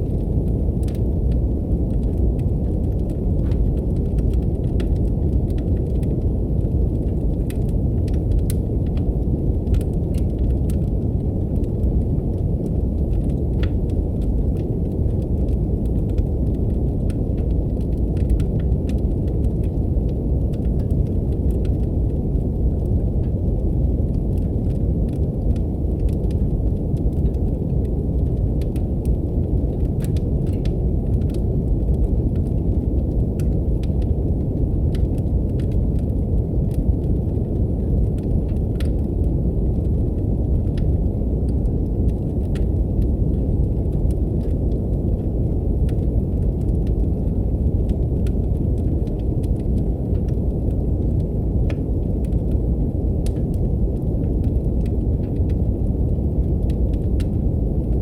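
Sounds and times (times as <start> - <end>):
brown noise hiss: 0.0 - 58.0
wood fire crackling: 0.0 - 58.0.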